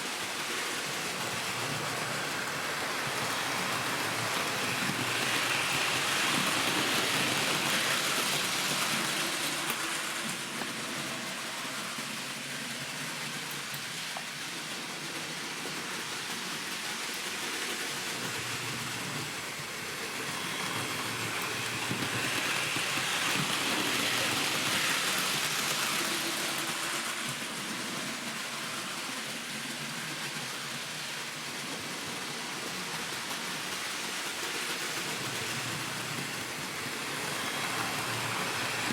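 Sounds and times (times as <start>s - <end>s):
model train running on track: 0.0s - 38.9s.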